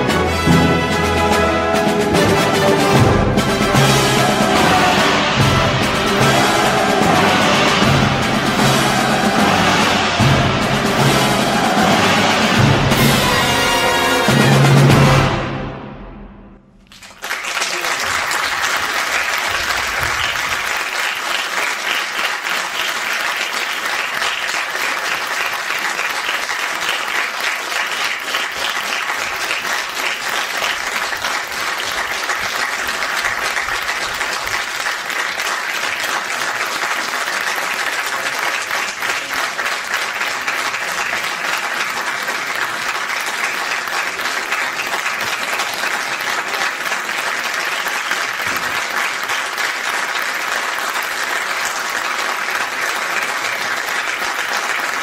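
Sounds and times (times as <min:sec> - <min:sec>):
audience applauding: 0:00.0 - 0:15.5, 0:16.8 - 0:55.0.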